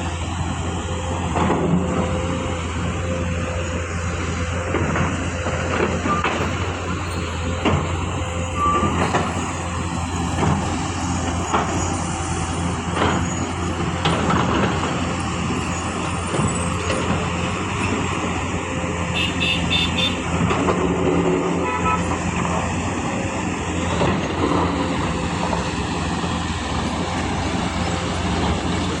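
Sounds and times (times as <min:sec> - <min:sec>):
diesel construction machinery running: 0:00.0 - 0:29.0.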